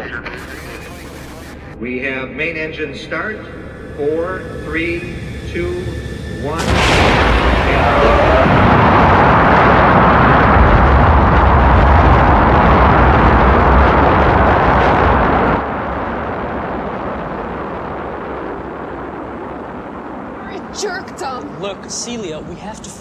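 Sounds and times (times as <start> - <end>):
rocket engines roaring at liftoff: 0.0 - 23.0.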